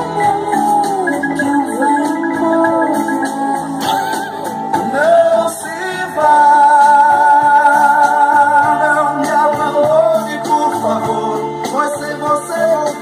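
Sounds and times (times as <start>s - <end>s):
backing music: 0.0s - 13.0s
person singing into microphone: 0.0s - 13.0s.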